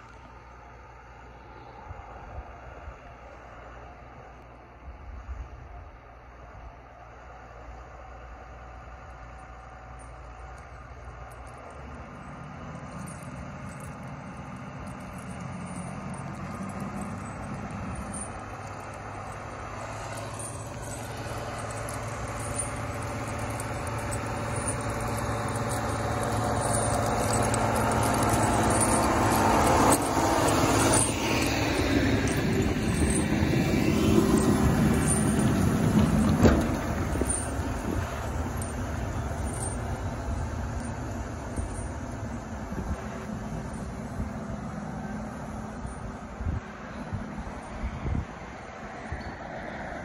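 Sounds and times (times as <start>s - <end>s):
tractor diesel engine: 0.0s - 49.6s.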